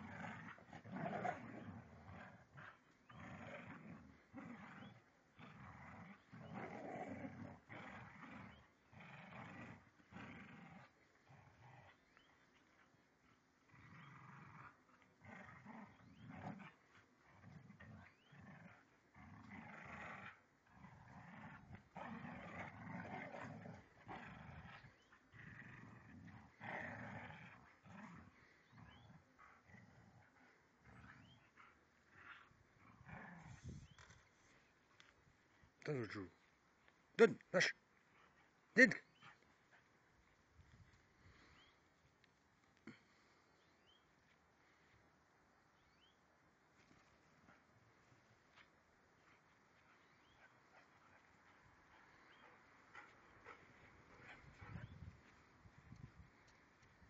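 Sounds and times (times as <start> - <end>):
dogs growling and snarling: 0.0 - 35.7, 37.6 - 46.0, 46.7 - 57.0.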